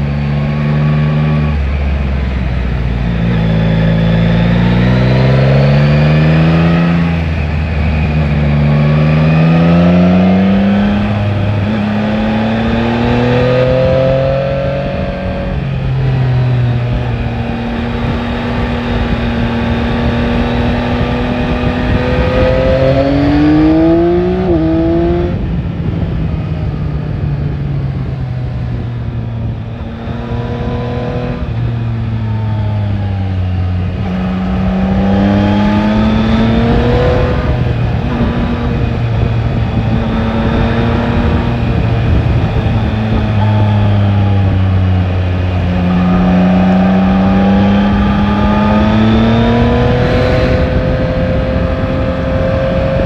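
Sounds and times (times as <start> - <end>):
motorcycle engine accelerating: 0.0 - 53.0
wind noise: 0.0 - 53.0.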